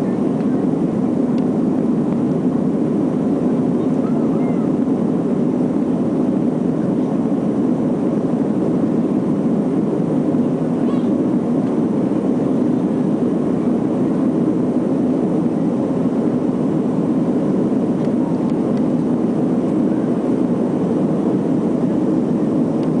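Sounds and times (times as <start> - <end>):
cabin airflow rush: 0.0 - 23.0
jet engines droning: 0.0 - 23.0.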